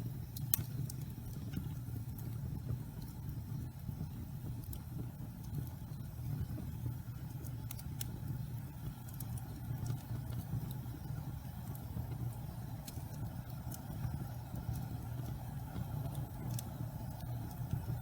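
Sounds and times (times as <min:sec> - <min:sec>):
fire rumbling in fireplace: 0:00.0 - 0:18.0
wood crackling and popping: 0:00.0 - 0:18.0.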